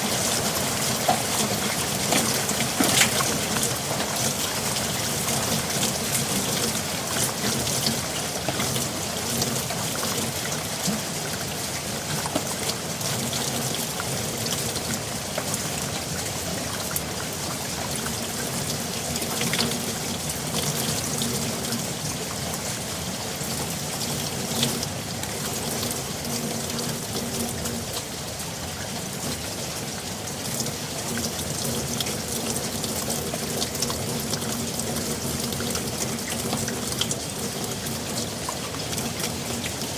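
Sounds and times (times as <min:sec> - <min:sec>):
steady rain falling: 0:00.0 - 0:39.9
water trickling: 0:00.0 - 0:39.9.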